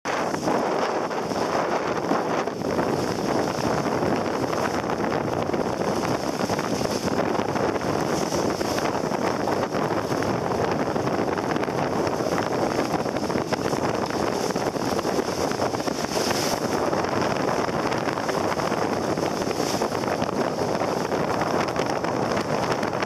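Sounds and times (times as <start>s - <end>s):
choppy sea rushing: 0.0s - 23.0s
wind buffeting microphone: 0.1s - 23.0s.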